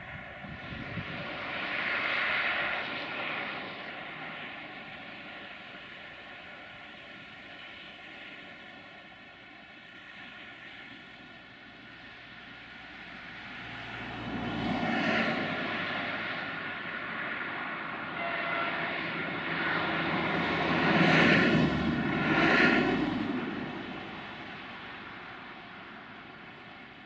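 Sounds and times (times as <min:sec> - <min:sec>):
diesel train engine drone: 0:00.0 - 0:27.0.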